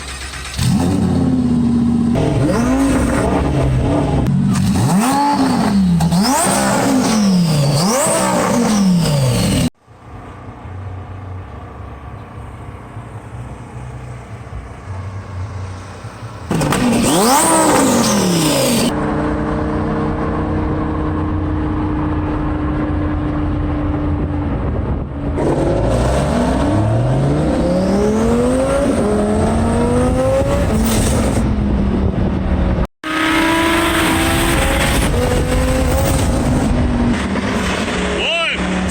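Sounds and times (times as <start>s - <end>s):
sports car accelerating hard: 0.6s - 9.7s, 14.9s - 38.9s.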